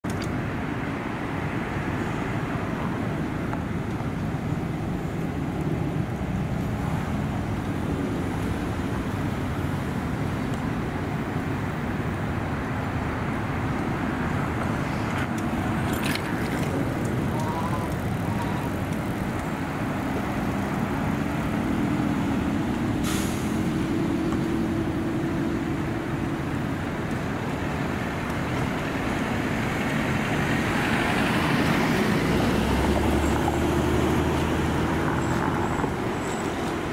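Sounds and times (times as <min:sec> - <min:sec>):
traffic and engine noise: 0:00.0 - 0:36.9.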